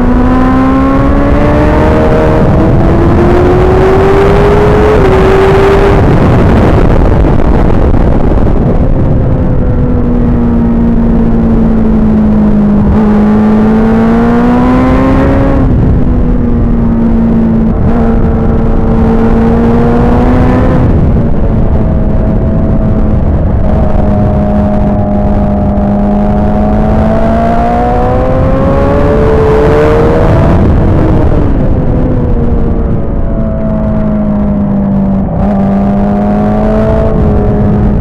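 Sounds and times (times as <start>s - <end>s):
motorcycle engine at high revs: 0.0s - 38.0s.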